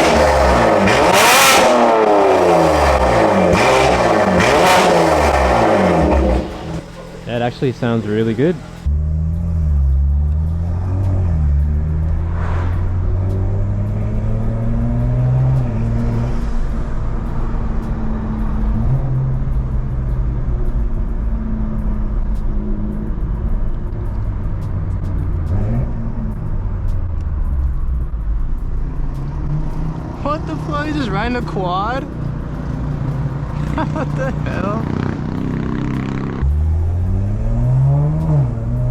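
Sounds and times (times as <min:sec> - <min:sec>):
car engine exhaust note: 0:00.0 - 0:38.9.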